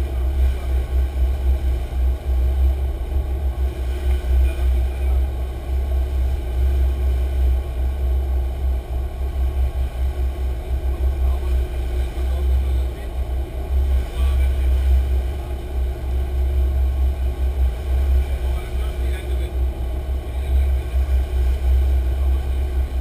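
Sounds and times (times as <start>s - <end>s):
boat engines rumbling: 0.0s - 23.0s
churning wake: 0.0s - 23.0s.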